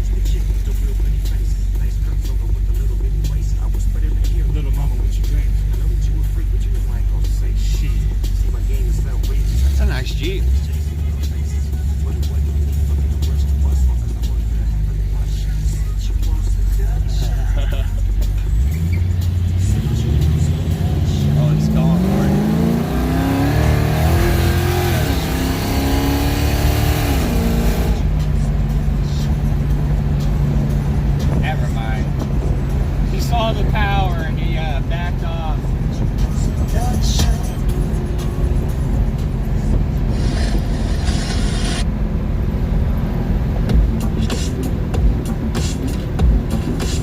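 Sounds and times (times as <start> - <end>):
car engine revving: 0.0 - 47.0
deep exhaust rumble: 0.0 - 47.0.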